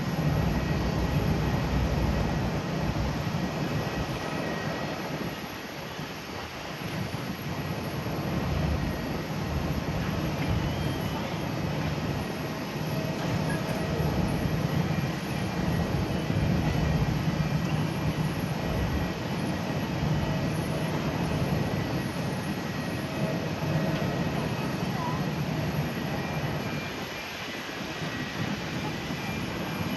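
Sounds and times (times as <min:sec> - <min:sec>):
jet airliner taxiing: 0:00.0 - 0:29.9.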